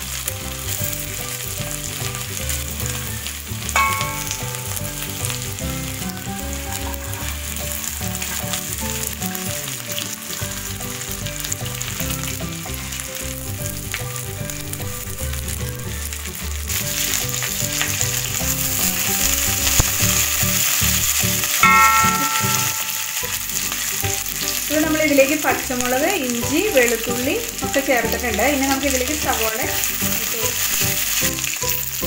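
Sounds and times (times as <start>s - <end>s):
spices sizzling in hot oil: 0.0s - 32.0s.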